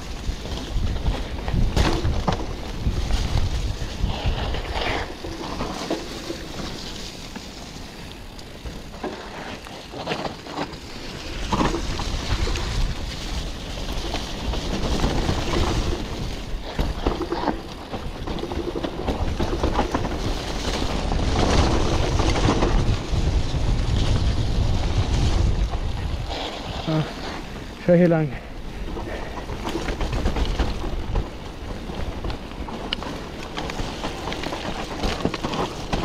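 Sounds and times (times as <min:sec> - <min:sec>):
wind rushing over microphone: 0:00.0 - 0:07.0, 0:11.2 - 0:36.0
bike knocks and rattles: 0:00.0 - 0:26.5, 0:28.8 - 0:36.0
low tyre rumble: 0:00.0 - 0:36.0.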